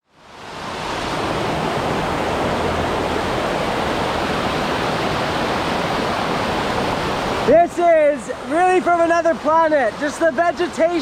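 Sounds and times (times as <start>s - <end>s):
waterfall rushing over rocks: 0.1s - 11.0s.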